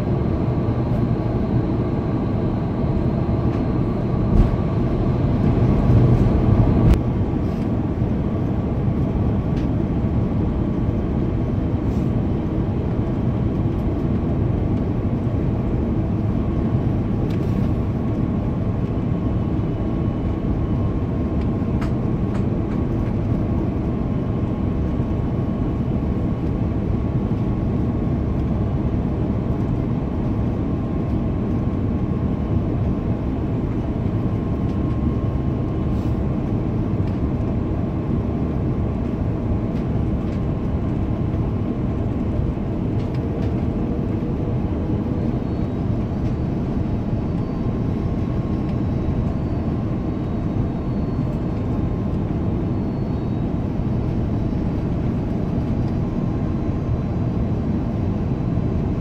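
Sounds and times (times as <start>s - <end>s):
airliner cabin engine noise: 0.0s - 59.0s.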